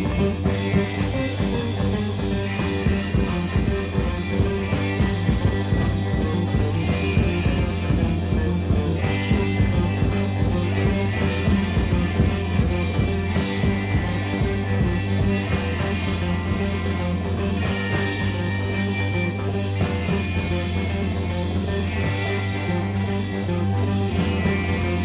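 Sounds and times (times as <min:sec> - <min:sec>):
electric bass line: 0:00.0 - 0:25.0
rock band playing live: 0:00.0 - 0:25.0.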